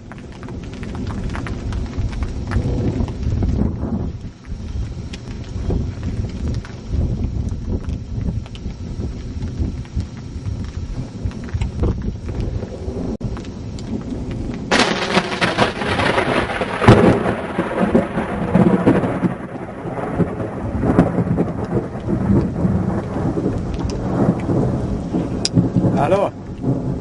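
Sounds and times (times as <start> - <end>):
steady rain: 0.0 - 27.0
thunder cracking and rolling: 0.0 - 27.0.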